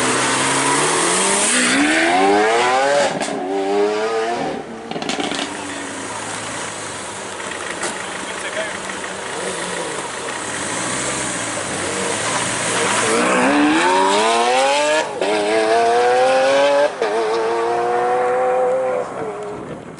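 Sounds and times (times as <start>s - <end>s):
car engine accelerating hard: 0.0s - 19.8s.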